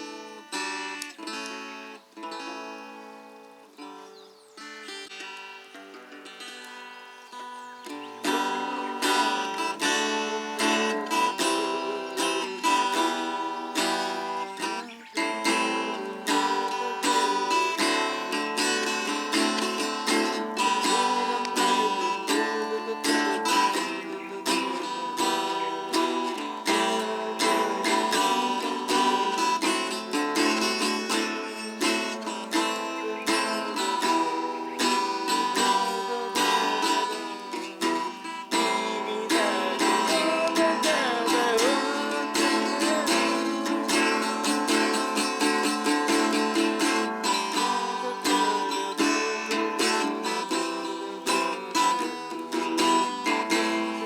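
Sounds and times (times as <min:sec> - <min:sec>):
acoustic guitar strumming chords: 0:00.0 - 0:54.0.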